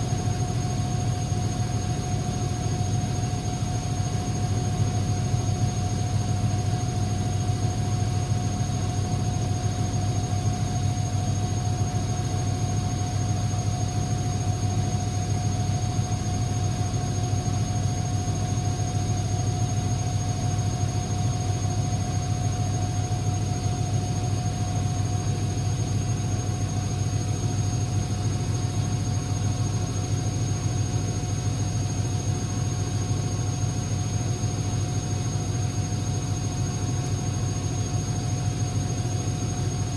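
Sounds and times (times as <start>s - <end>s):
faint constant whine: 0.0s - 39.9s.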